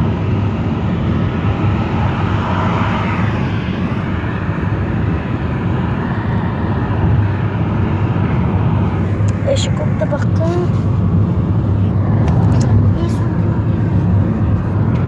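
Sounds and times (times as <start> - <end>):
road vehicle engine and tyres: 0.0 - 15.0.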